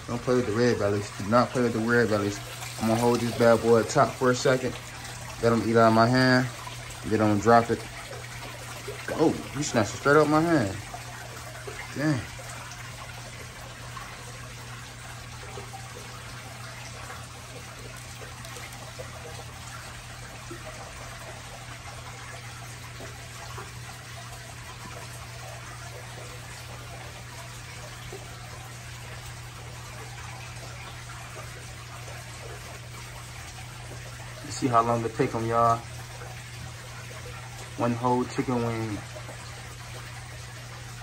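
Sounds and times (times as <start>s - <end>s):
aquarium filter hum: 0.0s - 41.0s
water trickling: 0.0s - 41.0s.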